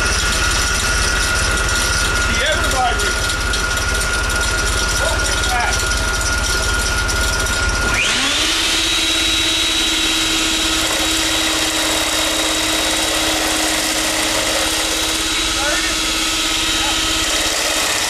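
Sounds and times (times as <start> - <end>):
lathe rhythmic rumble: 0.0 - 18.0
wood router whine: 0.0 - 18.0.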